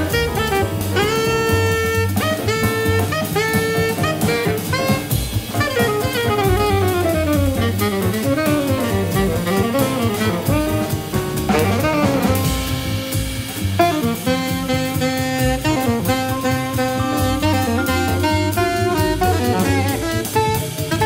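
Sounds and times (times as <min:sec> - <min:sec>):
big band jazz: 0:00.0 - 0:21.0
tenor saxophone solo: 0:00.0 - 0:21.0.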